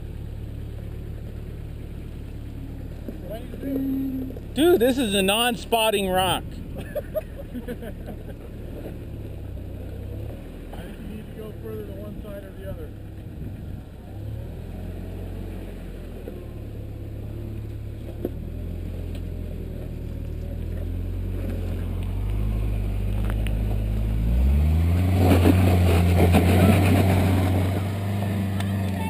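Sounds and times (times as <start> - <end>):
truck engine revving: 0.8 - 29.0.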